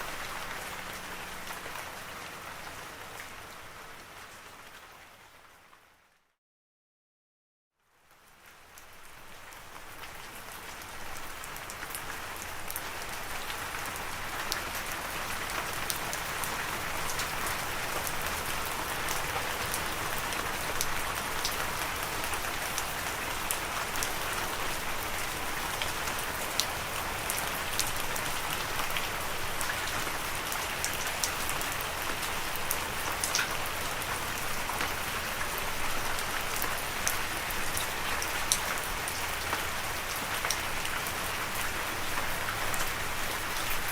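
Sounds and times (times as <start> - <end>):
steady rain hiss: 8.0 - 43.9.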